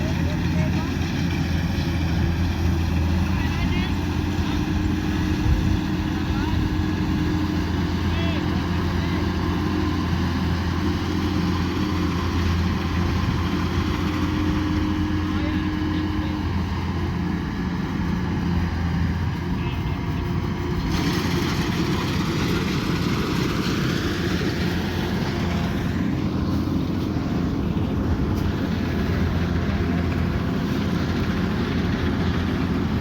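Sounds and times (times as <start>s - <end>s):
combine harvester engine humming: 0.0s - 33.0s.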